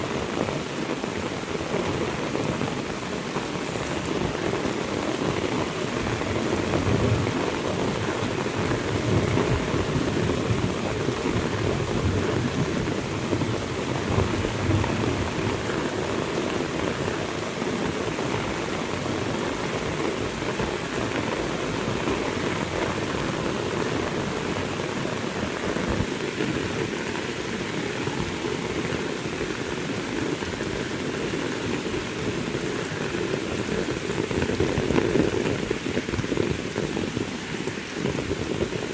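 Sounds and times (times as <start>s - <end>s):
heavy rain pouring: 0.0s - 38.9s
thunder rumbling: 3.7s - 37.2s.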